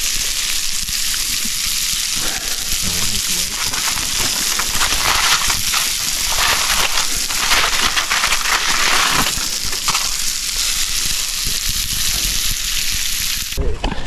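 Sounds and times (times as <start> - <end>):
aluminium foil crinkling: 1.0 - 13.6.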